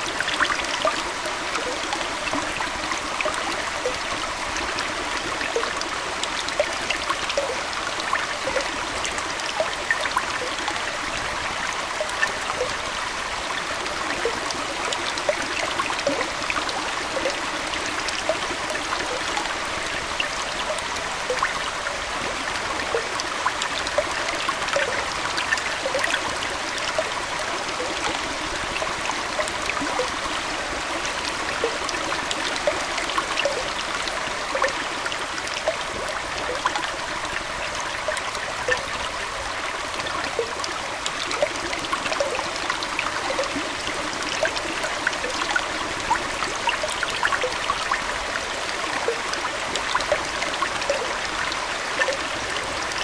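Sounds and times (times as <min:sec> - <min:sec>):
aquarium water trickling: 0:00.0 - 0:53.0
small splashes and drips: 0:00.0 - 0:53.0.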